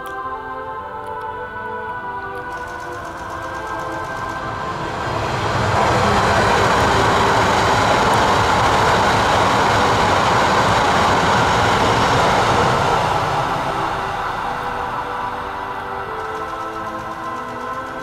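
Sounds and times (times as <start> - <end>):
train passing at speed: 1.8 - 18.0.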